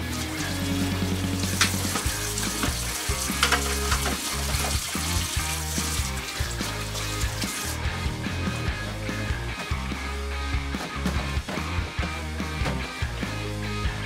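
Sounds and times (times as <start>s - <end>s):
music with steady beat and bass: 0.0s - 14.0s.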